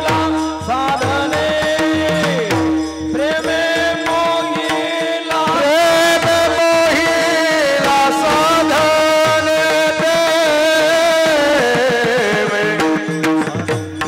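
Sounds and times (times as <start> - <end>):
person singing: 0.0 - 13.9
tabla strokes: 0.0 - 14.0.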